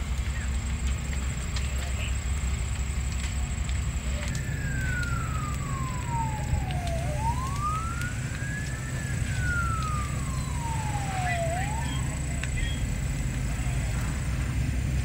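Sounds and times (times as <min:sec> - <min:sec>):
steady low rumble: 0:00.0 - 0:15.0
emergency vehicle siren wailing: 0:02.9 - 0:15.0.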